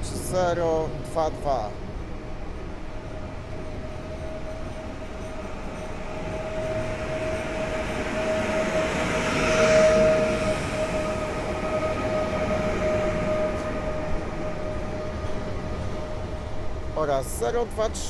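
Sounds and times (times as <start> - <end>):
train electrical whine: 0.0 - 18.0
train wheels rumbling: 0.0 - 18.0.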